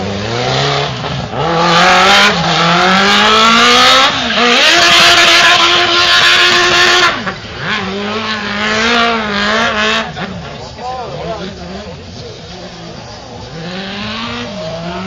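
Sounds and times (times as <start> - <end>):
engine revving hard: 0.0 - 10.5, 13.4 - 15.0.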